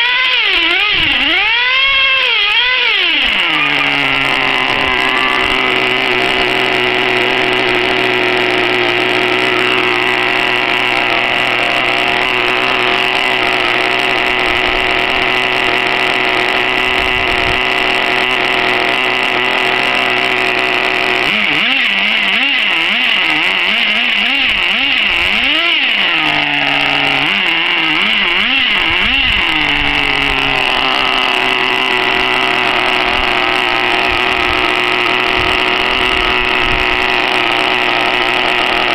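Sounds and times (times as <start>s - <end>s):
small engine idling and revving: 0.0s - 38.9s.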